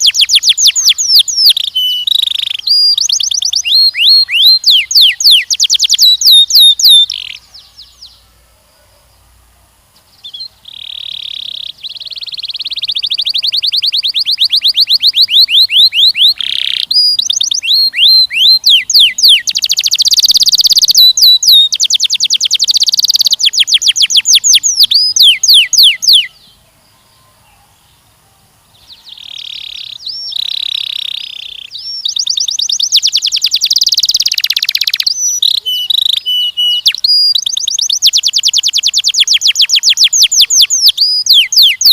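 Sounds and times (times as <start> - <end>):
canary singing trills: 0.0 - 9.3, 10.1 - 41.9.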